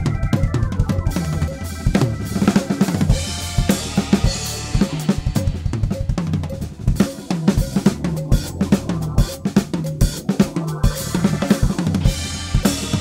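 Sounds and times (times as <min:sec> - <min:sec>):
backing track music: 0:00.0 - 0:13.0
drum kit groove: 0:00.0 - 0:13.0.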